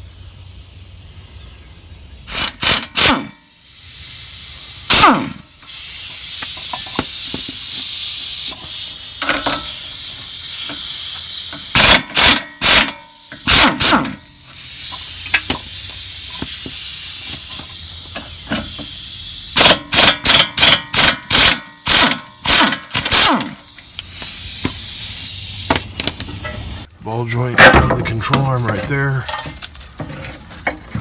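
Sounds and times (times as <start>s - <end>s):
air hissing: 0.0s - 26.9s
air tool bursts: 0.0s - 26.9s.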